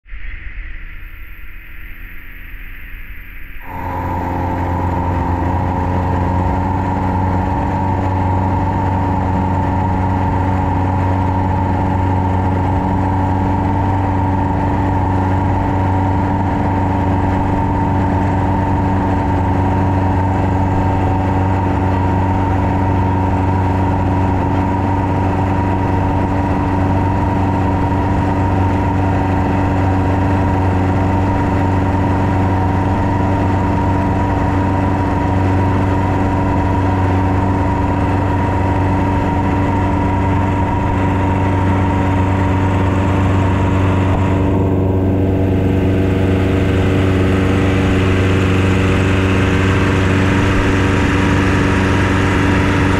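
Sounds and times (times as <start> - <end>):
boat engine droning: 3.1 - 52.9.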